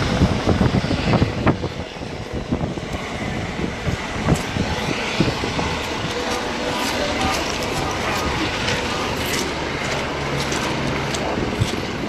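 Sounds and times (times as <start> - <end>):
rumbling outdoor noise: 0.0 - 12.0.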